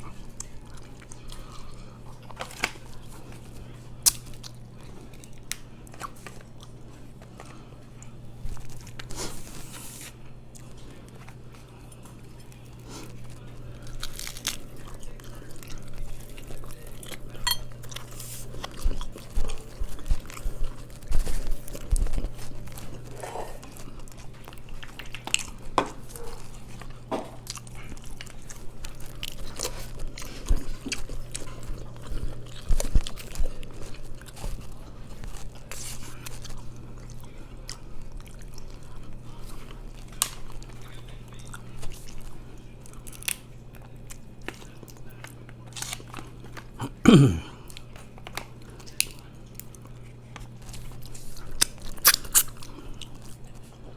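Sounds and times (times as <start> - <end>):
close-miked chewing: 0.0 - 53.9.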